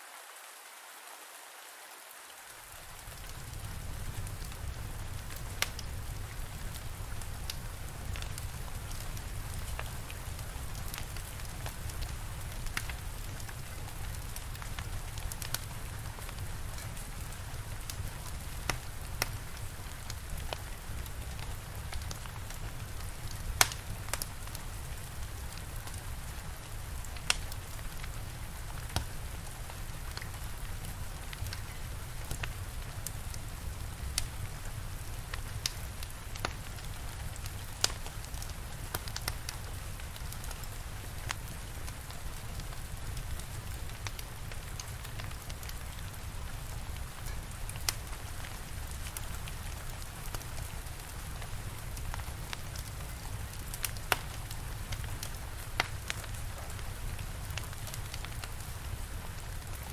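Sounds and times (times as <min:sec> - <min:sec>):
steady rain: 0:00.0 - 0:59.9
wood fire crackling and popping: 0:02.8 - 0:59.9.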